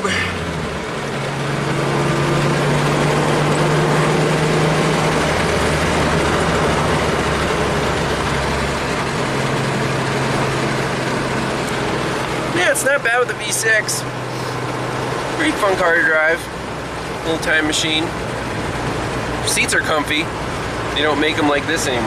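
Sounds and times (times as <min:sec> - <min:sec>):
car engine running: 0:00.0 - 0:22.0
tyre and road noise: 0:00.0 - 0:22.0.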